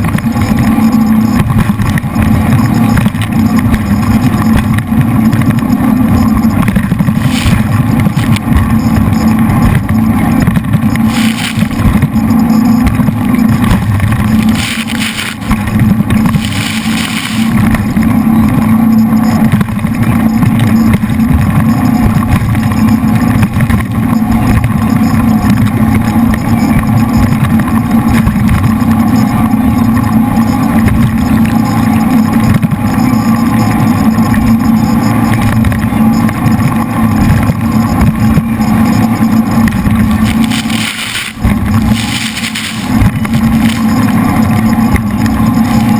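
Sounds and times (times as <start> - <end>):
boat engines droning: 0.0 - 45.9.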